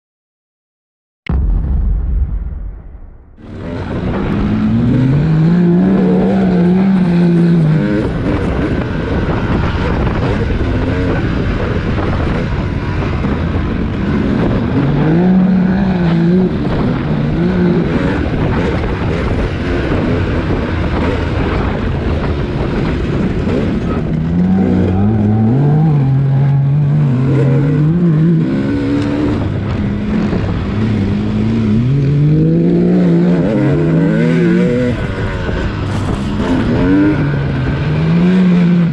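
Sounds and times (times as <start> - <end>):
dirt bike engine revving: 3.4 - 38.9
wind on microphone: 3.4 - 38.9.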